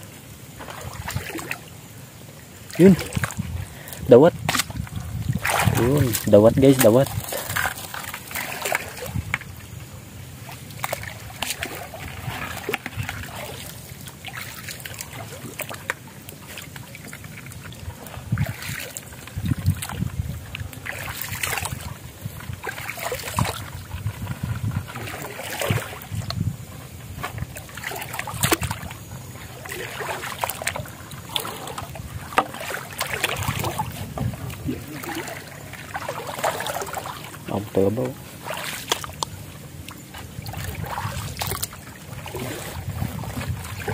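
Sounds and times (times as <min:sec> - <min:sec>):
footsteps splashing through water: 0:00.6 - 0:01.7, 0:02.7 - 0:09.5, 0:10.4 - 0:26.4, 0:27.1 - 0:43.9.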